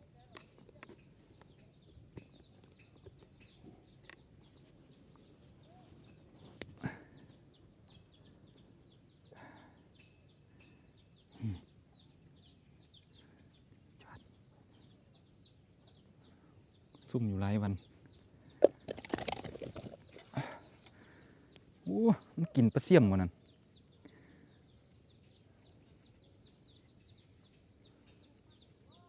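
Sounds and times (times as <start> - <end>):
bird chirping: 0.0 - 29.0.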